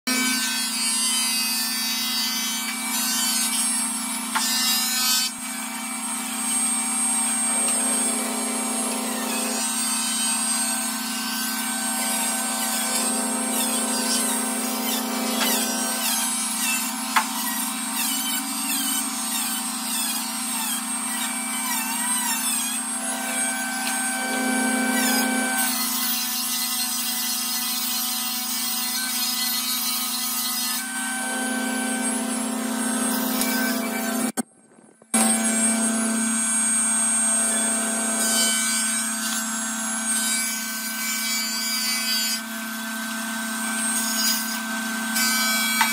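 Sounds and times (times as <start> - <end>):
table saw ripping wood: 0.1 - 34.4, 35.2 - 45.9.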